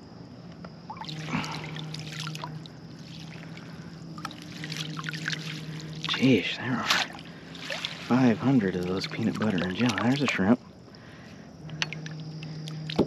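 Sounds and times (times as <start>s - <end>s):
water splashing and trickling: 0.8s - 13.0s.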